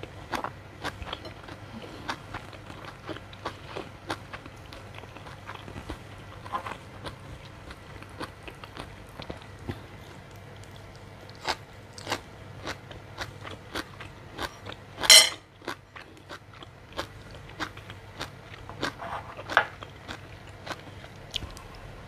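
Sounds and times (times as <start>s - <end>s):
crunchy chewing of vegetable stems: 0.0s - 21.9s.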